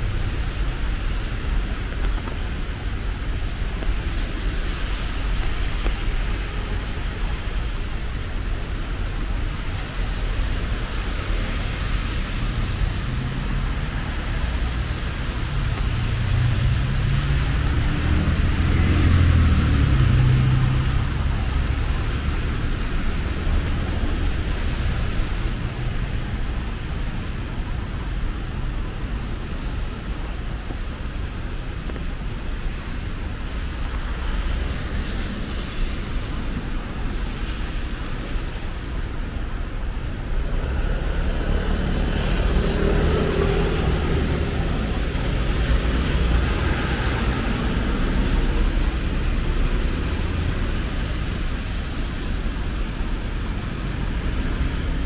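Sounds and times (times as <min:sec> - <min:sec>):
traffic on wet road: 0:00.0 - 0:55.0.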